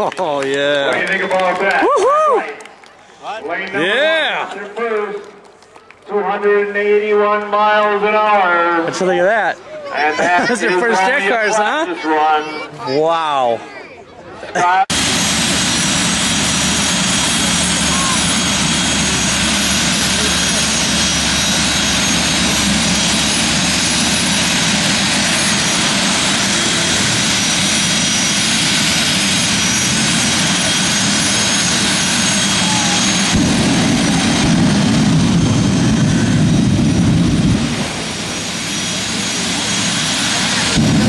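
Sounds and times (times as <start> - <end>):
jet engines roaring with high whine: 0.6 - 13.3, 14.3 - 41.0.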